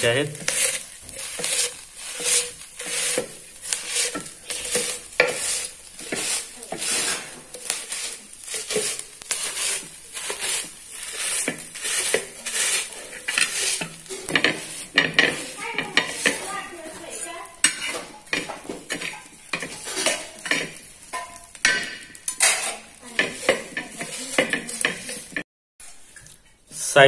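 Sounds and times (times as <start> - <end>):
tumbler grinding fruit on griddle: 0.0 - 25.4.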